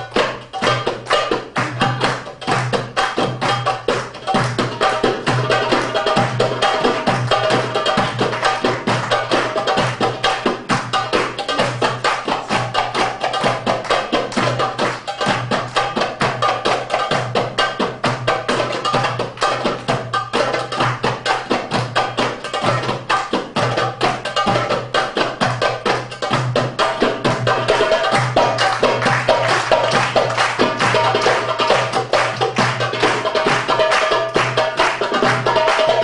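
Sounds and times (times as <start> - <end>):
goblet drums played fast: 0.0 - 36.0.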